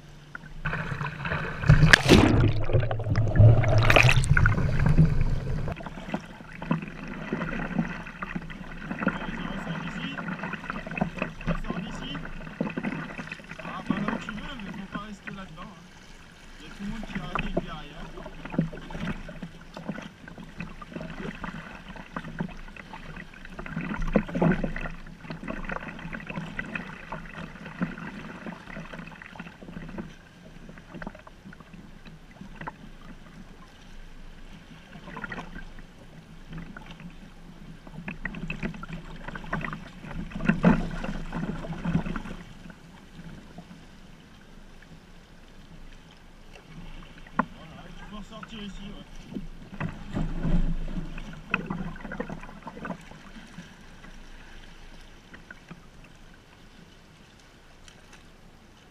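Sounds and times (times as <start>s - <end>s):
water splashing against kayak hull: 0.0s - 58.9s.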